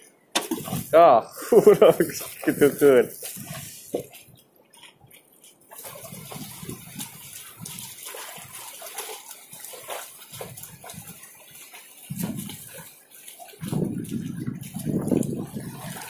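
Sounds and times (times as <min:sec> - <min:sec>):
waves lapping against ship hull: 0:00.0 - 0:16.0.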